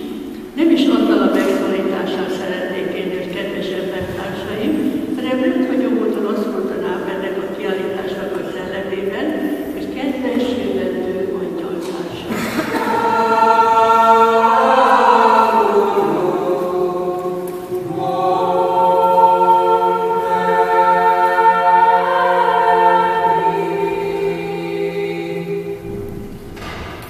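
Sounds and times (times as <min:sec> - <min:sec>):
group of voices singing chords: 0:00.0 - 0:27.0.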